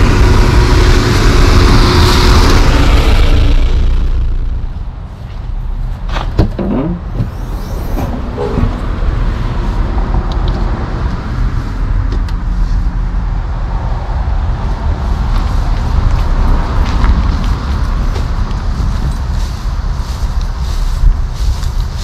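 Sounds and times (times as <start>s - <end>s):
steady low rumbling: 0.0s - 22.0s.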